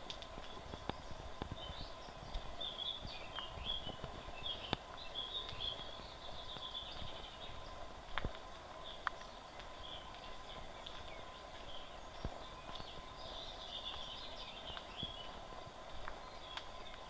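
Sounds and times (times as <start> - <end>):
footsteps on dirt path: 0.0 - 17.0
small birds chirping: 0.0 - 17.0.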